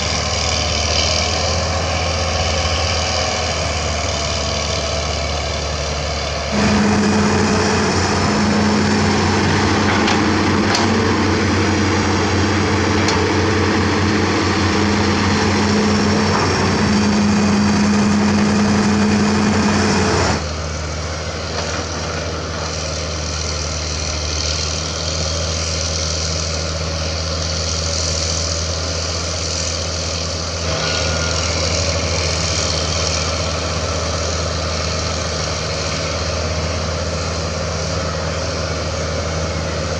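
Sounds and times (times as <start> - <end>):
heavy machine diesel engines: 0.0 - 39.9.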